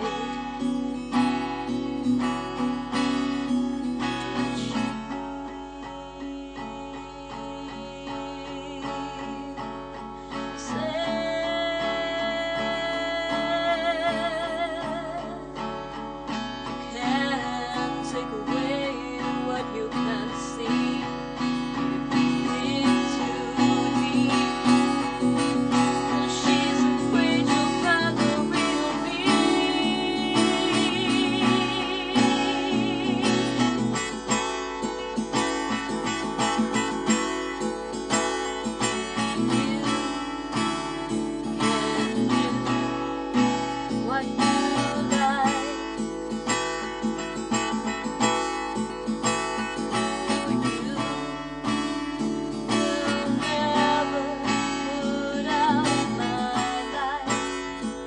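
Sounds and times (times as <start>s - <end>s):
acoustic guitar strumming: 0.0s - 58.0s
woman singing: 0.0s - 58.0s.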